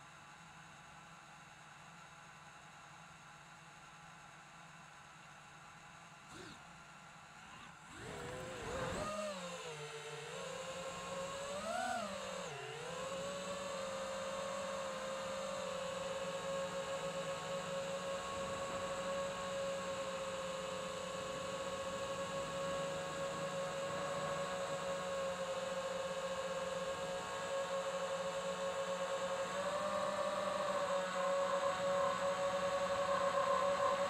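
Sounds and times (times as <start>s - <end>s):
drone motors whining: 6.3s - 34.0s.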